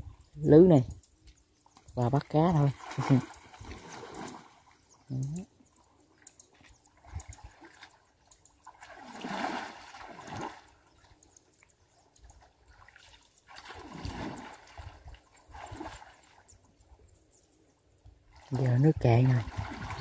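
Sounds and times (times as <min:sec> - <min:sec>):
water sloshing and splashing: 0:01.5 - 0:17.1, 0:18.2 - 0:20.0.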